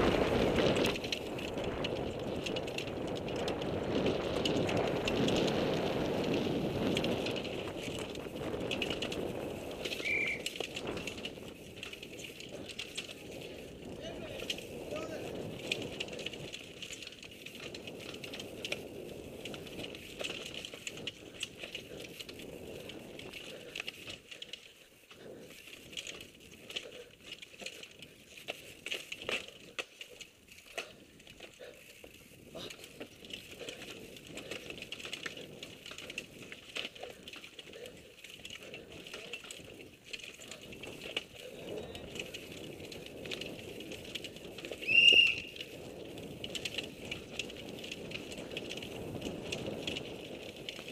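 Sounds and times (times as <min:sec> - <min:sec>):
bike rattling and clicking: 0:00.0 - 0:50.9
tyres crunching over dirt: 0:00.0 - 0:50.9.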